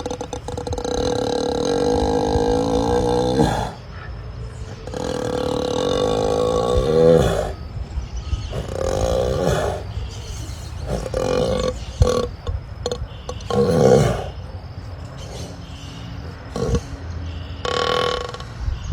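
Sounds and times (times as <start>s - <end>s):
ox snoring: 0.0s - 3.9s, 4.6s - 7.8s, 8.5s - 14.5s, 15.2s - 17.0s, 17.6s - 18.5s.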